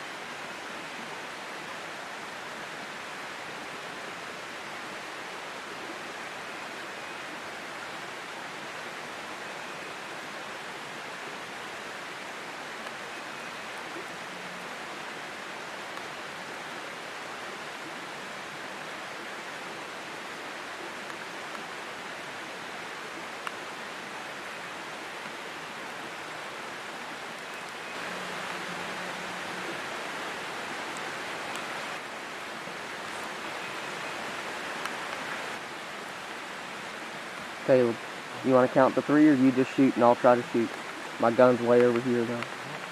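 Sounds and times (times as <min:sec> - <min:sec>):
running creek water: 0:00.0 - 0:42.9.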